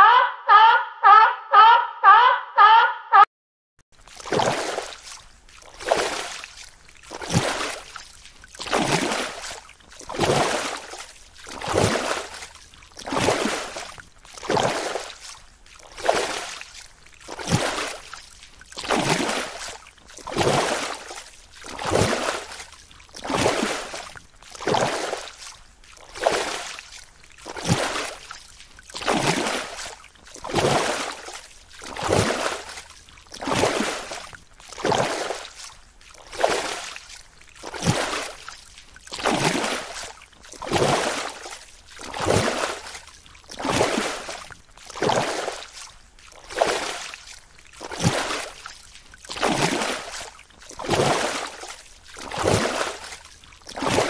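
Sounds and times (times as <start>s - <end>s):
rhythmic whooshing water: 4.0s - 54.0s.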